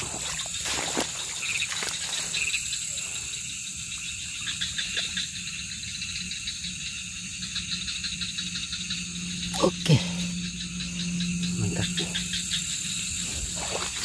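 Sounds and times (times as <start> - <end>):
crickets and frogs trilling: 0.0 - 14.0.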